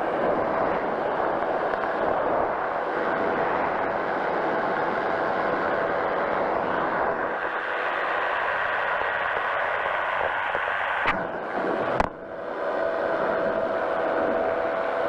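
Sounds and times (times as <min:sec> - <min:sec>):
engine and propeller running: 0:00.0 - 0:15.0.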